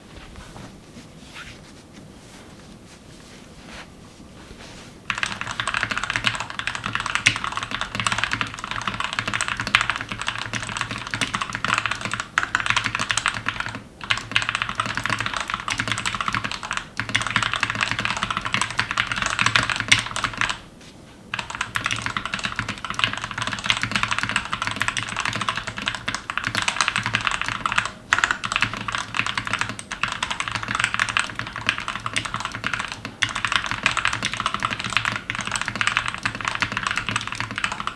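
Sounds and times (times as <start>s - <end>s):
typing on a mechanical keyboard: 5.1s - 20.6s, 21.3s - 37.9s.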